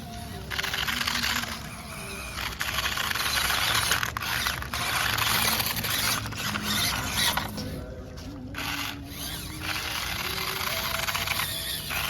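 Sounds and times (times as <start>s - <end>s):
electric motor and gearbox whirring: 0.0s - 12.0s.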